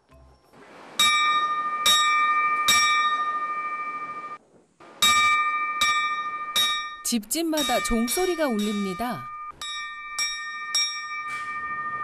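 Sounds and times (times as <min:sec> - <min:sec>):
hanging metal bell ringing: 0:01.0 - 0:04.4, 0:05.0 - 0:12.0.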